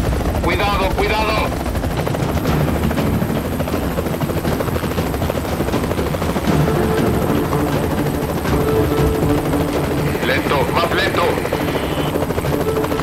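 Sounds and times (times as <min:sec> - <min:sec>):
helicopter rotor chop and engine: 0:00.0 - 0:13.0.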